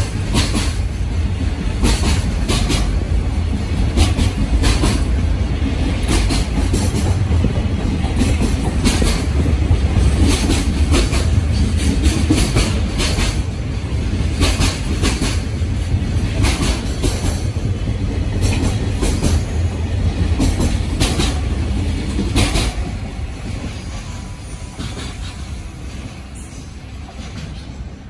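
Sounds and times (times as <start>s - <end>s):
train rumbling past: 0.0s - 28.0s
wheels clacking over rail joints: 0.0s - 28.0s.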